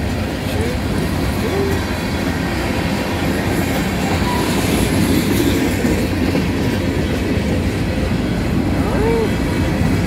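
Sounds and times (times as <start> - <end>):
train wheels rolling on rails: 0.0 - 10.0.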